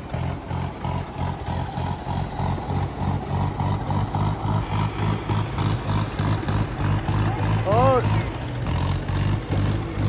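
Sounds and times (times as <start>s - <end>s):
tractor engine throbbing: 0.0s - 10.0s.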